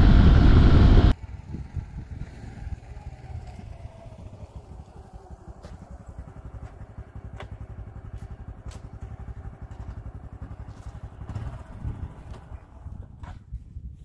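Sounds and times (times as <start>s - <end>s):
motorcycle engine idling: 0.0s - 13.2s.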